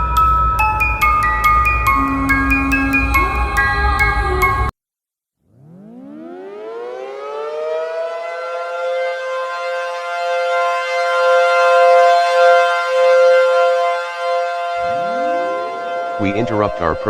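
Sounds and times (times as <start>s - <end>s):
civil defense siren wailing: 0.6s - 4.7s, 5.6s - 17.0s.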